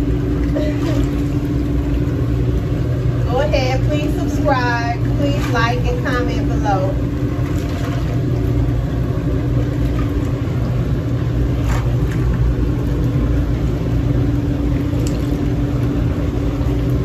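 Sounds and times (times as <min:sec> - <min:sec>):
bubbling churning water: 0:00.0 - 0:17.0
pump motor hum: 0:00.0 - 0:17.0.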